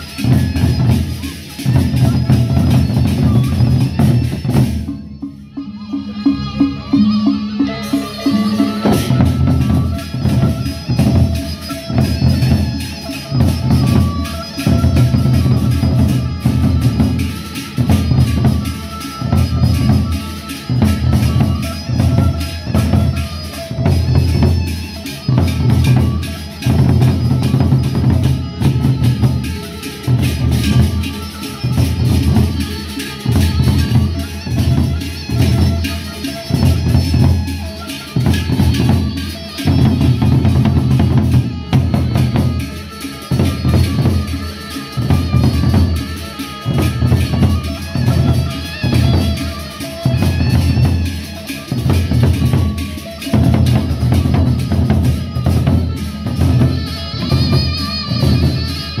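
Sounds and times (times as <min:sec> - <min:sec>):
barrel drums beaten with sticks: 0:00.0 - 0:59.0.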